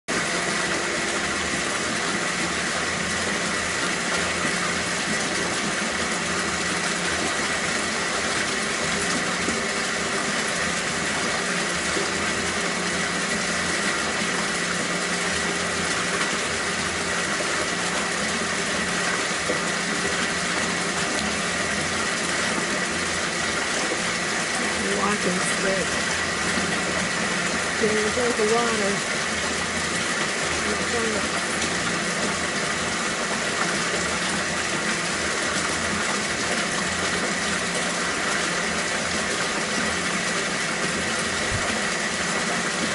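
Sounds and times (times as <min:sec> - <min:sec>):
running water: 0:00.1 - 0:42.9
water pump humming: 0:00.1 - 0:42.9.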